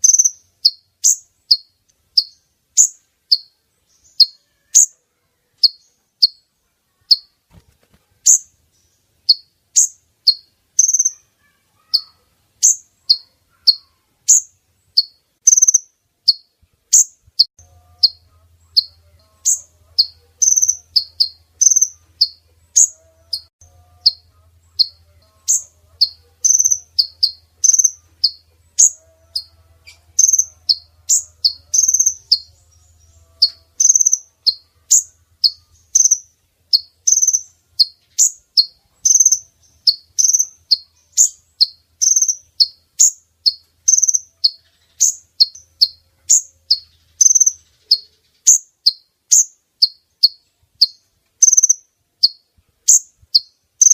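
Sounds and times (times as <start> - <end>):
bird high chirps: 0.0 - 7.6, 8.2 - 53.9.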